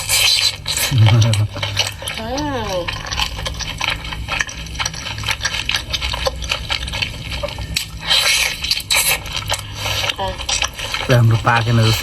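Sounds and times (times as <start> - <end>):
wet chewing and lip-smacking: 0.0 - 12.0.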